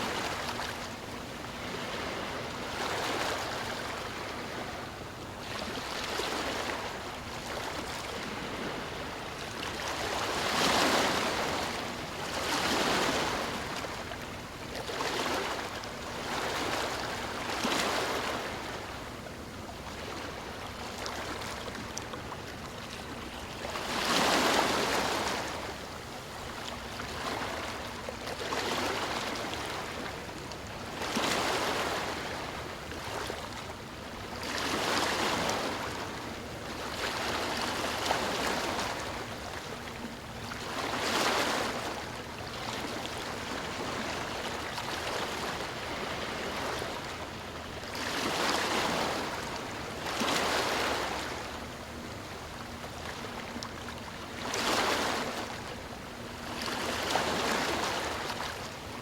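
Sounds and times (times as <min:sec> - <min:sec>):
ocean waves washing ashore: 0:00.0 - 0:59.0.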